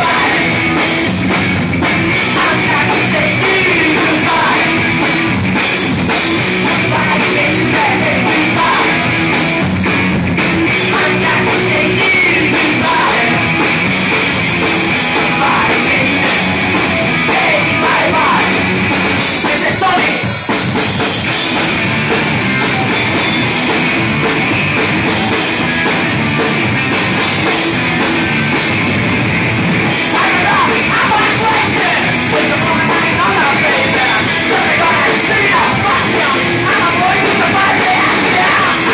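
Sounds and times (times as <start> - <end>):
bass guitar: 0.0 - 38.9
electric guitar: 0.0 - 38.9
pounding drum kit: 0.0 - 38.9.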